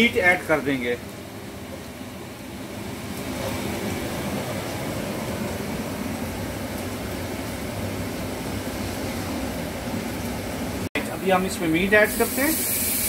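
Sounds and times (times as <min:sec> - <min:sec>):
onions frying in a pot: 0:00.0 - 0:13.0.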